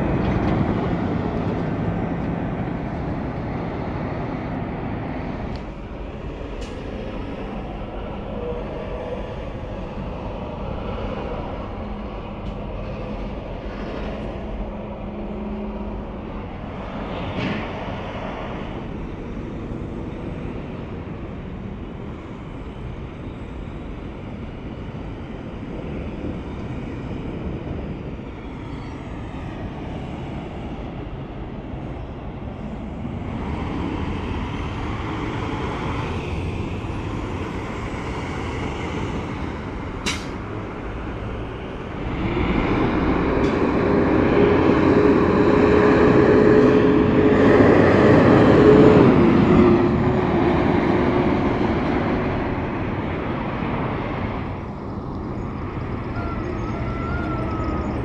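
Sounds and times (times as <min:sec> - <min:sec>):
trucks passing on highway: 0:00.0 - 0:58.0.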